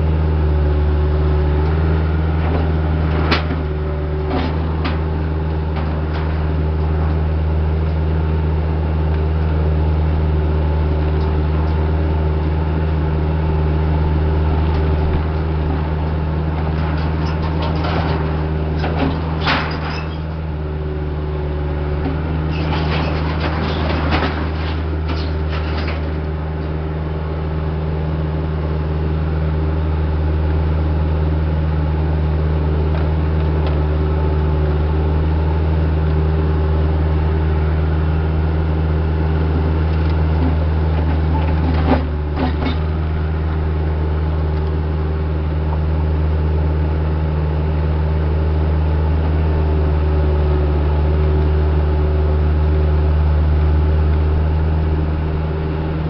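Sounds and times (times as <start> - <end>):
diesel engine running steadily: 0.0 - 56.0.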